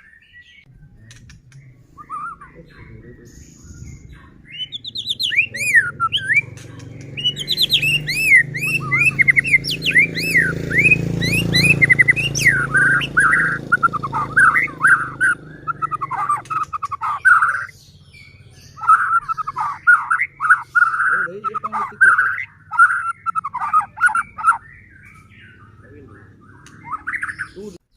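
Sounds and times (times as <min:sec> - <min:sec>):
songbird whistling and trilling: 0:00.0 - 0:27.8.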